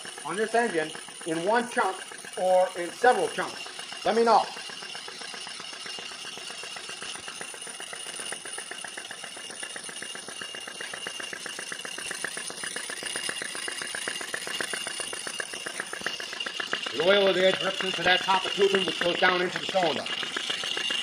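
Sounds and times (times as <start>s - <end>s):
small engine clicking rapidly: 0.0s - 21.0s.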